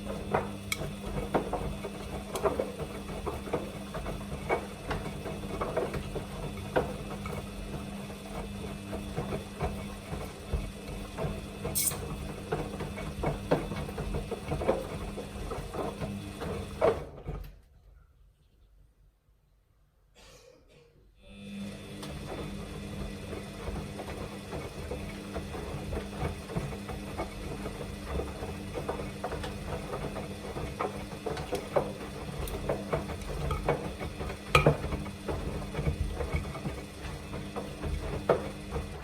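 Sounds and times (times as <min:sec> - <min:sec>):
washing machine motor hum: 0:00.0 - 0:17.4, 0:21.3 - 0:39.0.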